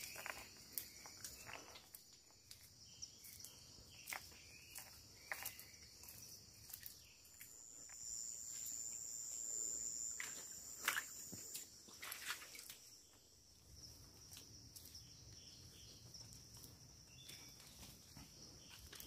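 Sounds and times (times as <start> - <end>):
footsteps on forest path: 0.0 - 19.0
insects buzzing: 0.0 - 19.0.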